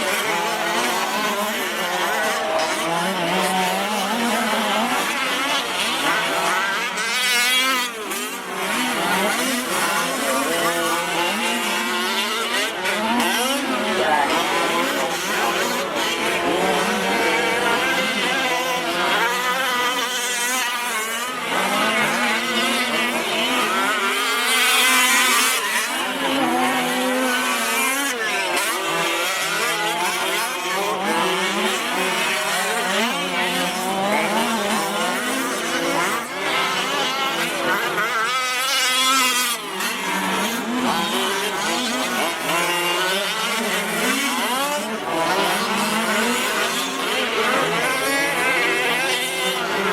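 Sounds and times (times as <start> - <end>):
rc truck engines revving: 0.0 - 49.9.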